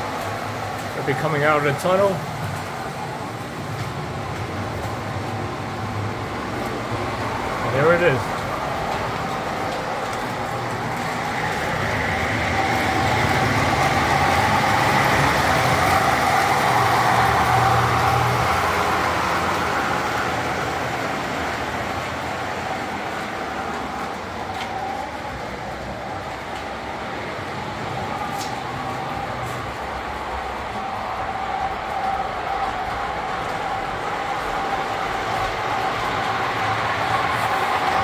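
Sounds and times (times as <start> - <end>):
model train wheels rumbling on rails: 0.0 - 38.0.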